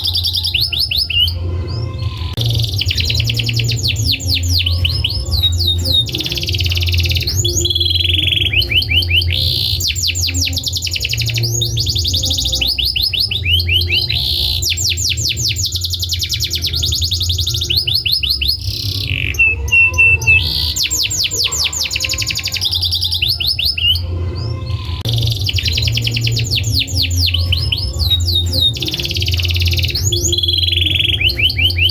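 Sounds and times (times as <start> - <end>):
canary singing trills: 0.0 - 31.9
steady low hum: 1.2 - 31.9.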